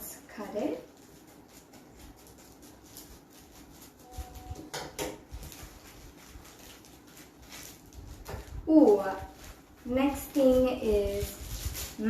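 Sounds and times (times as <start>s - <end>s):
packaging rustling and crinkling: 0.5s - 12.0s.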